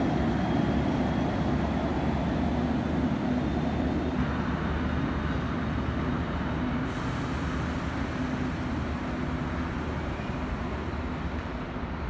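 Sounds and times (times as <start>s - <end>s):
train engine droning: 0.0s - 12.0s.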